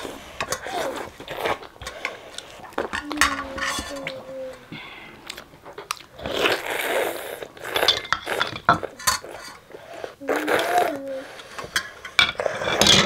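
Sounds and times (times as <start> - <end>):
noodles slurped and chewed: 0.0 - 12.9.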